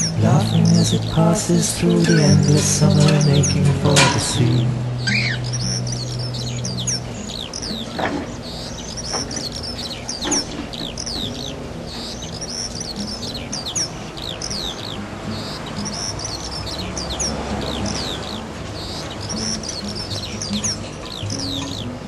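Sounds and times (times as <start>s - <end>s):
birds chirping: 0.0s - 22.0s
soft music: 0.0s - 22.0s.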